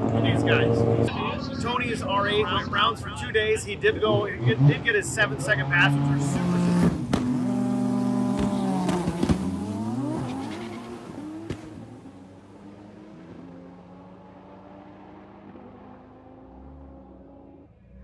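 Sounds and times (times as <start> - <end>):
racing car engine at full throttle: 0.0 - 18.0.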